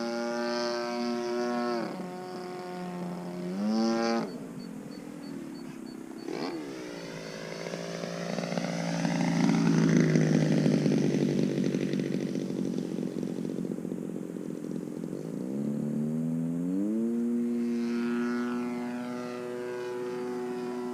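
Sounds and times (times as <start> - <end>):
model plane engine and propeller: 0.0 - 20.9.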